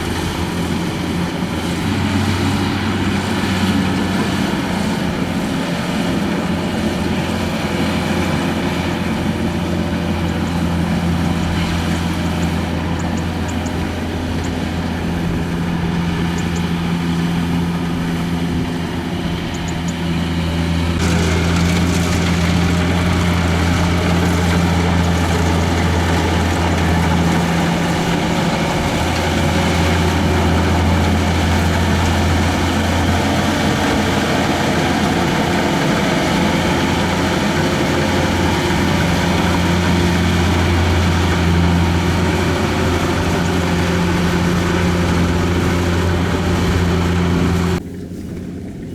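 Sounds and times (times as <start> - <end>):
combine harvester diesel engine: 0.0 - 48.9.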